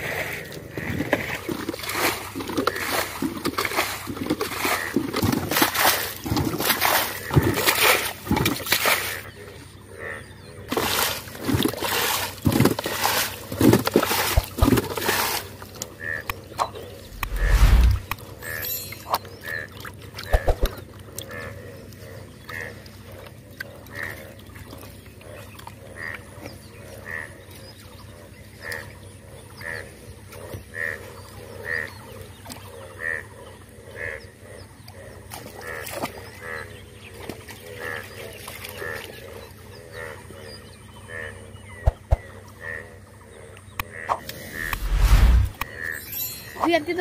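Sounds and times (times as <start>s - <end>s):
frogs croaking: 4.0s - 11.7s, 15.4s - 45.0s, 45.6s - 47.0s.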